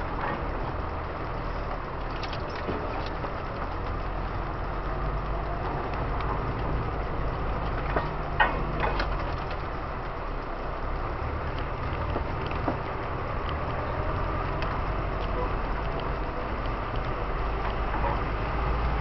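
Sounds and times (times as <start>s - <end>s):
vehicle engine low rumble: 0.0s - 19.0s
vehicle knocks and rattles: 0.0s - 19.0s.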